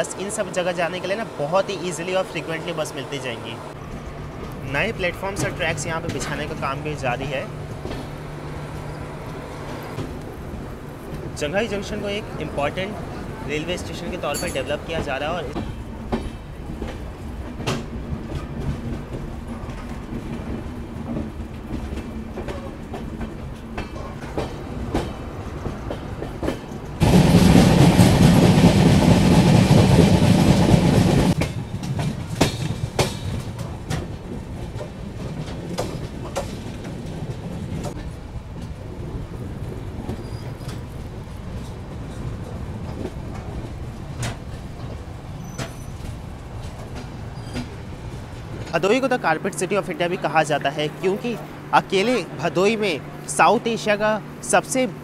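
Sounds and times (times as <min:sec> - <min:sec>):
train wheels clicking on rails: 0:03.7 - 0:54.9.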